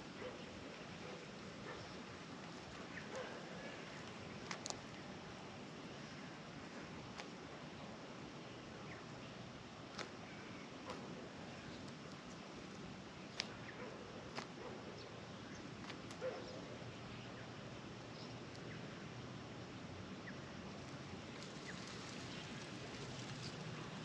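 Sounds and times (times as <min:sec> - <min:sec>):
steady soft hiss: 0:00.0 - 0:24.0.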